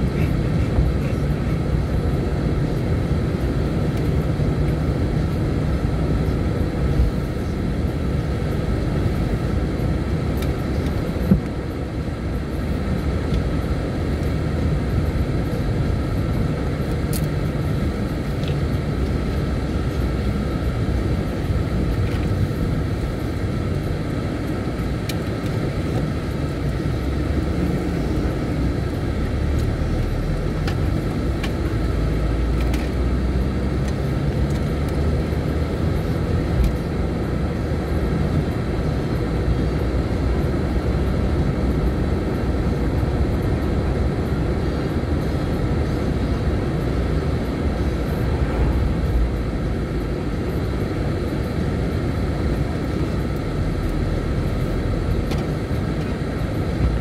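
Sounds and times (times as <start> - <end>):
vehicle driving rumble: 0.0 - 57.0.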